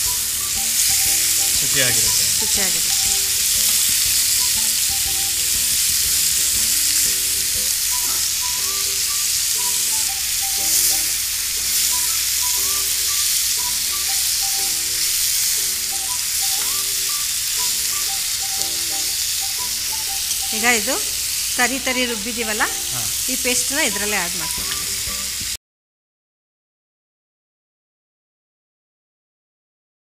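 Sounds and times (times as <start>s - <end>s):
soft melodic background music: 0.0s - 25.5s
chicken sizzling in oil: 0.0s - 25.6s.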